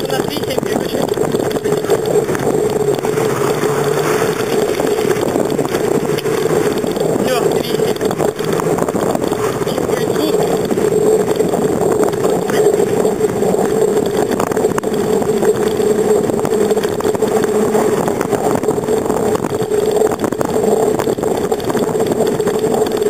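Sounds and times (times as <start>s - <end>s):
constant droning hum: 0.0s - 23.0s
wind and road rush: 0.0s - 23.0s.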